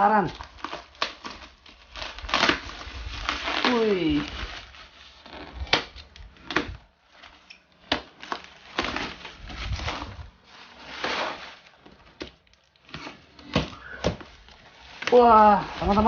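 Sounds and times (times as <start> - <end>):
cardboard rustling and scraping: 0.3 - 16.0.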